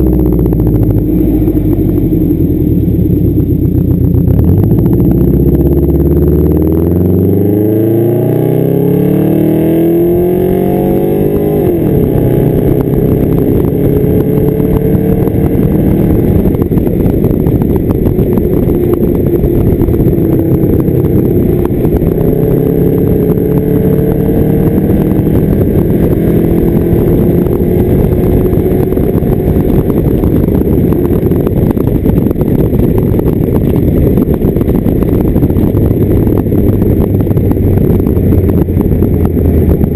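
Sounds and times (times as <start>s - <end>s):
loud car engine revving: 0.0s - 39.9s.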